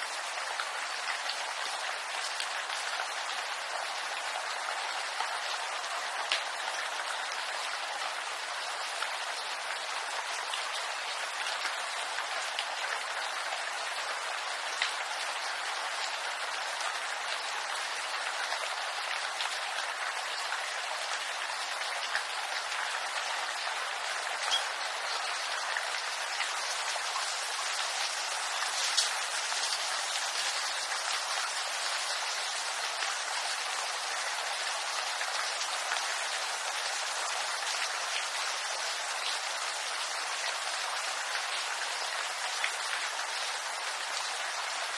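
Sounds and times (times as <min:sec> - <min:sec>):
rain falling on bamboo: 0:00.0 - 0:44.9.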